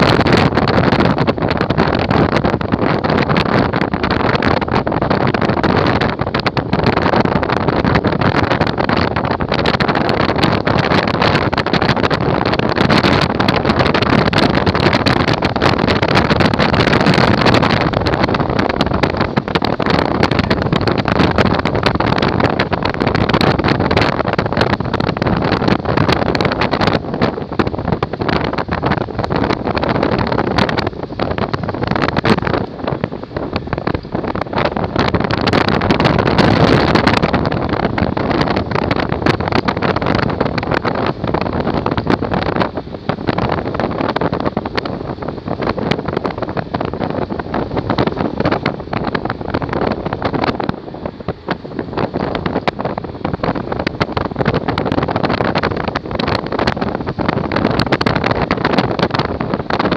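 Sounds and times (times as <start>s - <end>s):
vehicle road noise: 0.0s - 59.9s
wind buffeting microphone: 0.0s - 59.9s.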